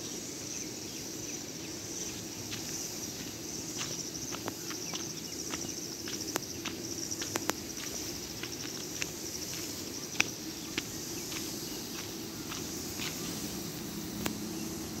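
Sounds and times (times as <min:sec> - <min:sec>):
insects chirring: 0:00.0 - 0:15.0
footsteps on gravel: 0:02.0 - 0:14.5.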